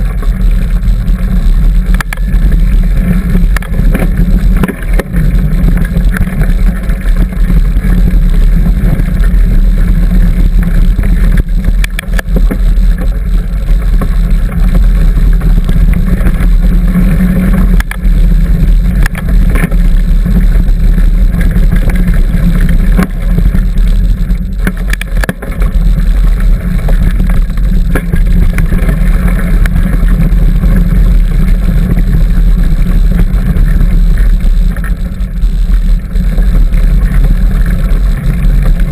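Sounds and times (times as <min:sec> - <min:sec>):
bike clicks and rattles: 0:00.0 - 0:38.9
wind rumble on microphone: 0:00.0 - 0:38.9.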